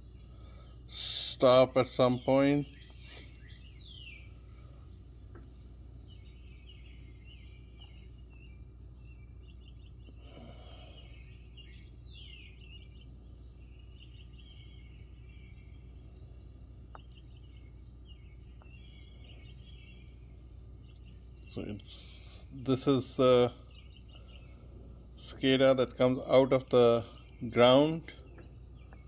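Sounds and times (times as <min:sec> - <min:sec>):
birds chirping faintly: 0:00.0 - 0:29.0
steady low hum: 0:00.0 - 0:29.0.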